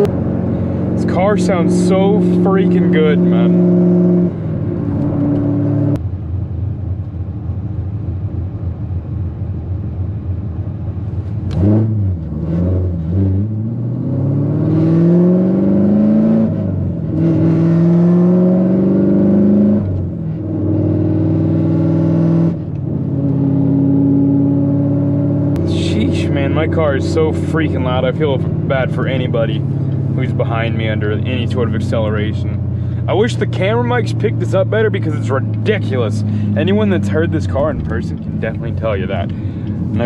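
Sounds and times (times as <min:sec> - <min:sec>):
car engine accelerating: 0:00.0 - 0:07.7, 0:10.0 - 0:40.0.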